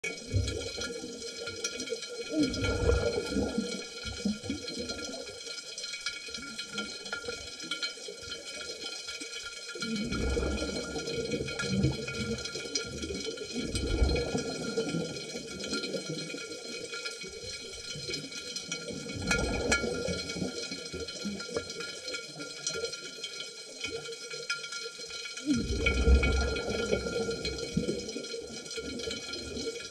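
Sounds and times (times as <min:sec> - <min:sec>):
bubbles gurgling underwater: 0:00.0 - 0:09.1, 0:09.7 - 0:23.1, 0:23.8 - 0:29.9.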